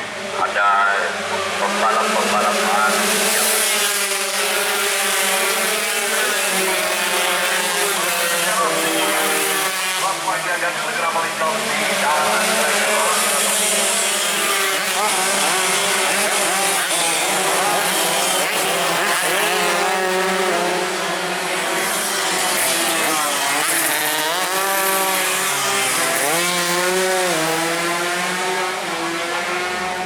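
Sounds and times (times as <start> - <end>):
racing motorcycles revving: 0.0 - 30.0.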